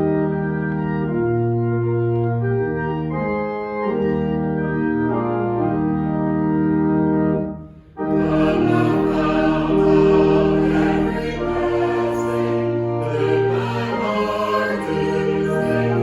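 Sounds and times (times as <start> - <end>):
organ playing held chords: 0.0 - 16.0.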